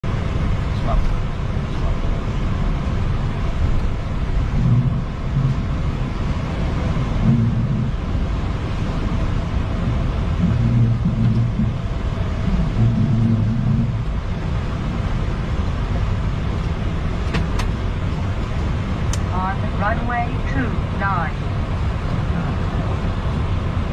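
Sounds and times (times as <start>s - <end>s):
low rumble of jet engines and wheels: 0.0s - 23.9s.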